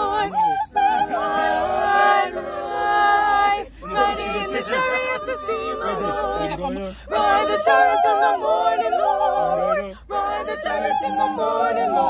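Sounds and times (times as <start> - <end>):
group singing a cappella: 0.0 - 12.0.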